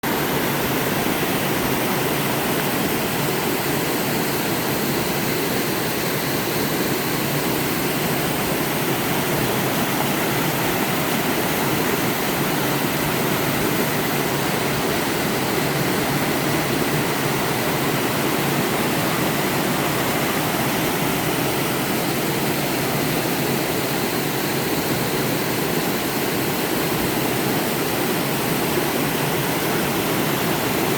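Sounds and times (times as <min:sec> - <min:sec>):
water rushing over rocks: 0:00.0 - 0:30.9.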